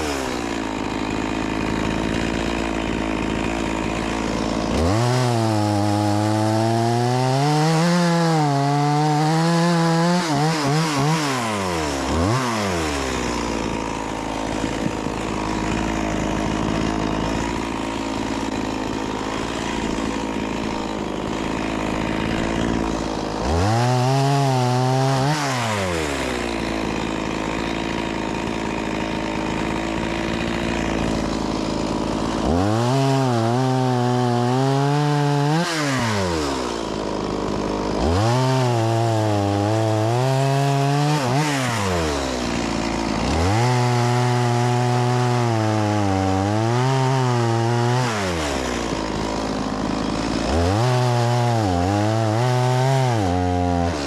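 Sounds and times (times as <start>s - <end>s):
chainsaw revving cutting wood: 0.0s - 54.0s.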